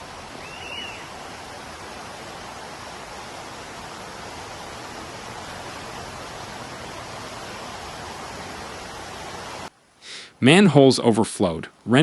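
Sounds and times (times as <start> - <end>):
rushing water: 0.0 - 9.7.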